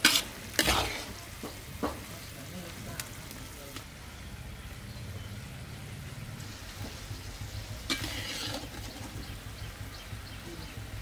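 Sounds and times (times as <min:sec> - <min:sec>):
sauce sizzling in a wok: 0:00.0 - 0:11.0.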